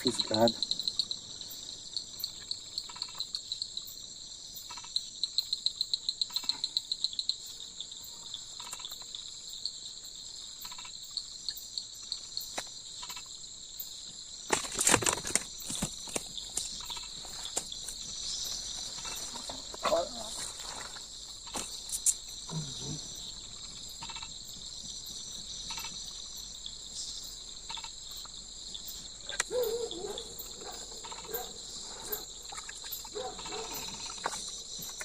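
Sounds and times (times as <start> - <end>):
insects chirping in trills: 0.0 - 35.0.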